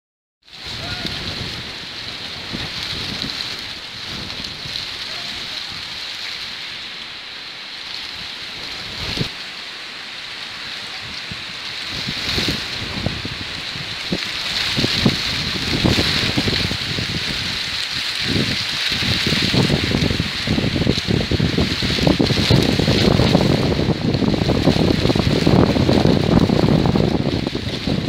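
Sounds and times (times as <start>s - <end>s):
heavy rain falling: 0.4s - 28.0s
wind gusts on microphone: 0.5s - 28.0s.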